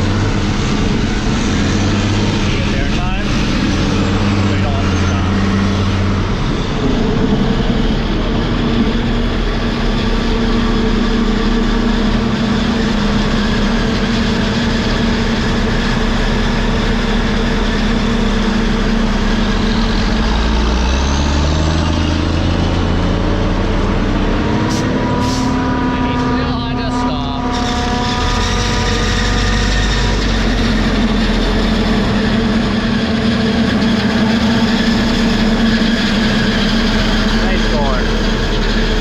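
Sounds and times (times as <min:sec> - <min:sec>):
heavy machine engine running: 0:00.0 - 0:39.0.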